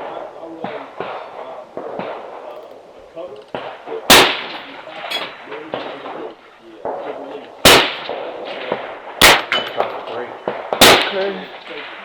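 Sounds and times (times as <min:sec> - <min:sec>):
distant gunshot: 0:00.0 - 0:02.5, 0:03.5 - 0:12.0
loud rifle gunshots: 0:00.0 - 0:02.5, 0:03.5 - 0:12.0.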